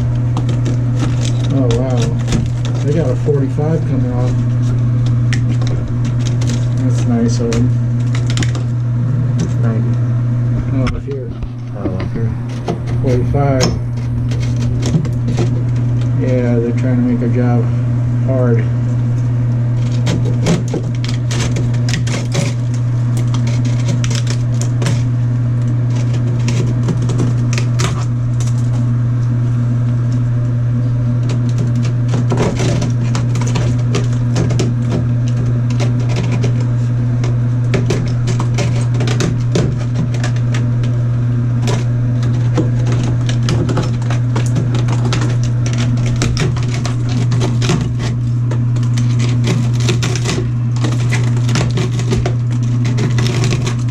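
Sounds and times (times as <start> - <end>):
clicks knocks and scrapes on plumbing: 0.0 - 9.9, 10.6 - 17.5, 19.8 - 28.8, 31.2 - 41.0, 41.6 - 53.9
steady low hum: 0.0 - 53.9.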